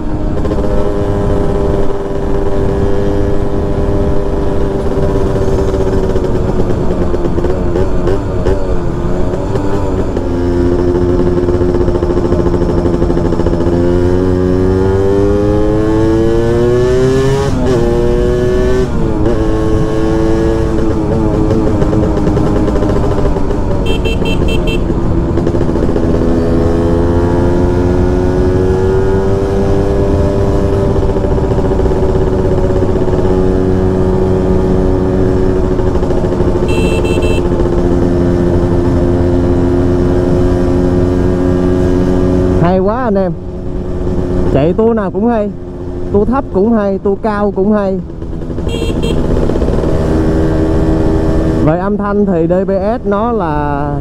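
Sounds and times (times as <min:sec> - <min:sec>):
two-stroke motorcycle engine riding: 0:00.0 - 0:54.0.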